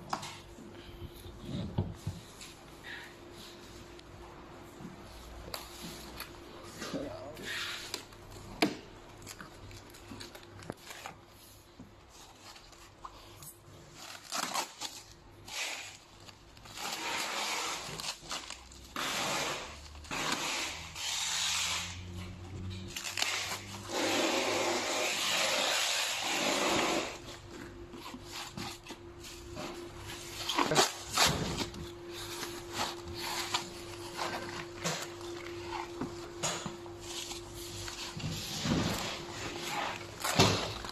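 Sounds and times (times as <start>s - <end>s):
plastic wrap rustling and crinkling: 5.1s - 40.9s.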